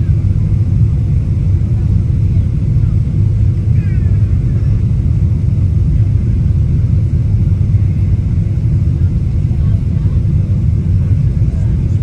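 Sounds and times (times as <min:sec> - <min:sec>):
airliner engine rumble: 0:00.0 - 0:12.0.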